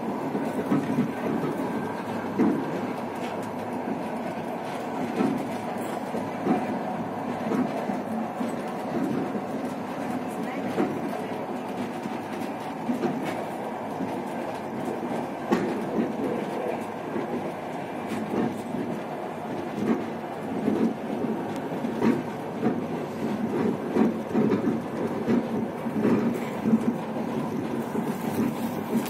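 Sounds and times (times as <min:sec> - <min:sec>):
train carriage rumbling on rails: 0:00.0 - 0:29.0.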